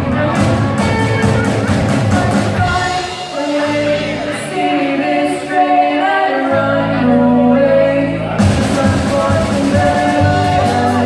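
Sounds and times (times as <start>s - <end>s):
band playing a song: 0.0s - 11.0s
person singing: 0.0s - 11.0s.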